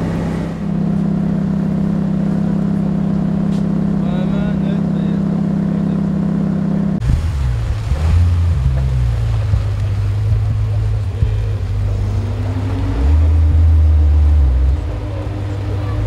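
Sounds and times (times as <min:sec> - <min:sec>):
car engine idling: 0:00.0 - 0:16.0
deep car engine running: 0:00.0 - 0:16.0.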